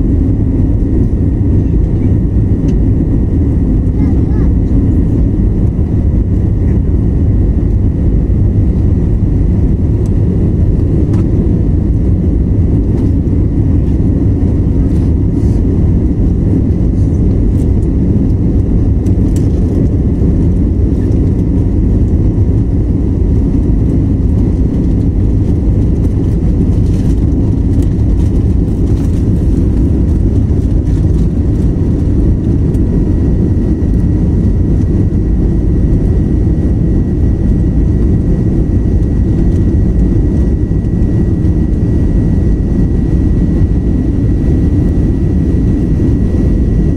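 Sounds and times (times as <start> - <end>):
jet cabin engine roar: 0.0 - 46.9.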